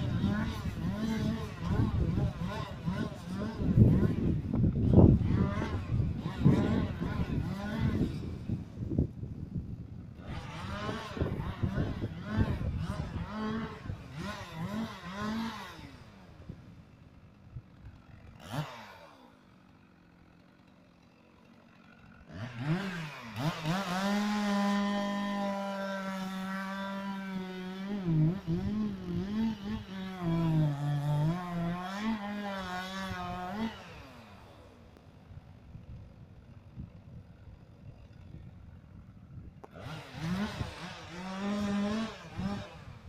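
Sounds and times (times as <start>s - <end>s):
chainsaw engine revving: 0.0s - 43.0s.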